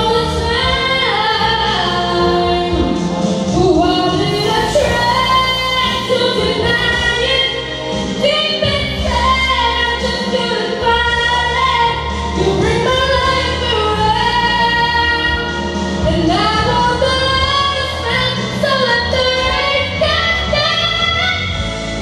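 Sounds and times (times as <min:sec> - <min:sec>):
young woman singing: 0:00.0 - 0:22.0
instrumental accompaniment: 0:00.4 - 0:22.0.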